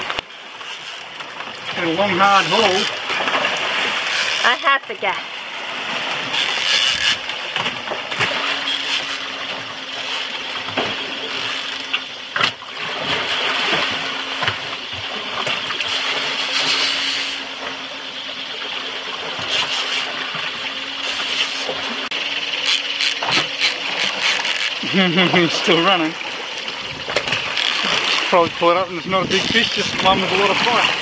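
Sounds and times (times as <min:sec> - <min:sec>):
water splashing along boat hull: 0:00.0 - 0:31.0
wind: 0:00.0 - 0:31.0.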